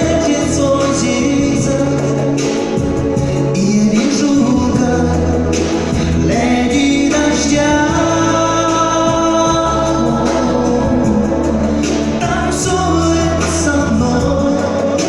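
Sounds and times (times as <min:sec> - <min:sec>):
musical accompaniment: 0:00.0 - 0:15.0
person singing: 0:00.0 - 0:15.0.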